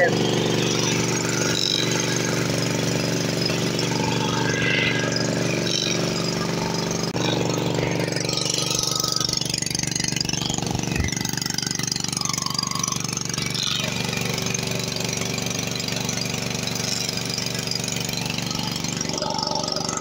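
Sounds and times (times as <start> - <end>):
petrol generator running: 0.0 - 20.0.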